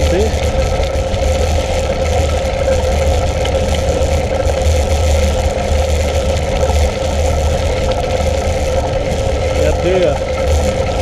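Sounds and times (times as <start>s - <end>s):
bike tyres on gravel: 0.0s - 11.0s
wind on microphone: 0.0s - 11.0s.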